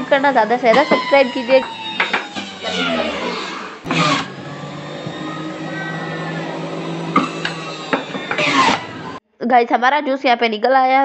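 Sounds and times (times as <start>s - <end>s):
juice extractor motor whirring: 0.0s - 9.2s.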